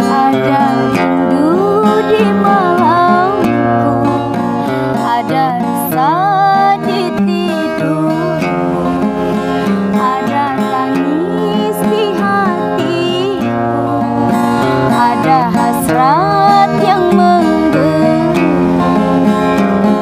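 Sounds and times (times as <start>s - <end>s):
woman singing: 0.0s - 19.5s
acoustic guitar chords: 0.0s - 20.0s.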